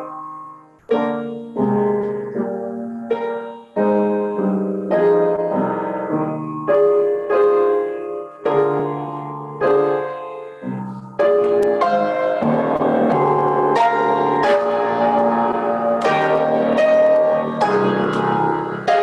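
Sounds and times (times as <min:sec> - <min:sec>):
upright piano chords: 0:00.0 - 0:19.0.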